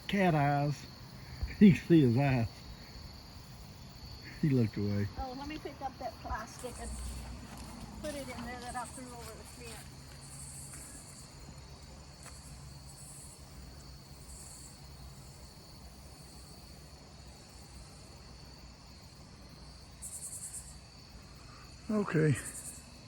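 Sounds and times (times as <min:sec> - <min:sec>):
insects trilling: 0:00.0 - 0:23.0
pulsing insect chirps: 0:00.0 - 0:23.0.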